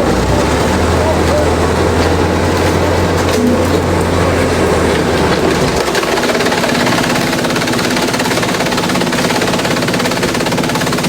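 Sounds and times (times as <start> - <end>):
deep hum: 0.0 - 9.8
shredder clattering: 0.0 - 11.0.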